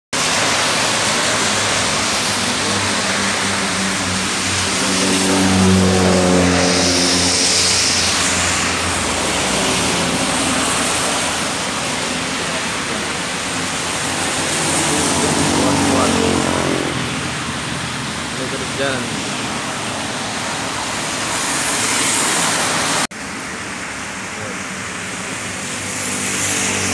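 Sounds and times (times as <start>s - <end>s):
heavy rain: 0.1s - 26.9s
vehicle engine humming: 0.1s - 26.9s.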